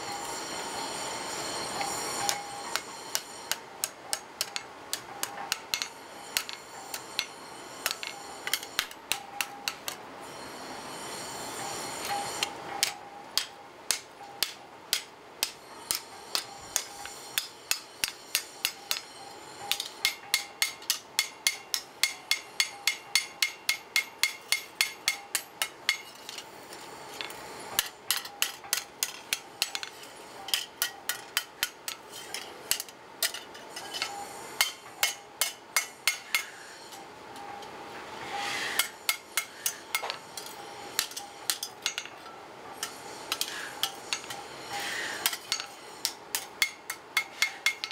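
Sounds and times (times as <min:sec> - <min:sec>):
hammer striking iron on anvil: 0:00.0 - 0:10.0, 0:11.6 - 0:26.5, 0:27.2 - 0:37.7, 0:38.3 - 0:47.9.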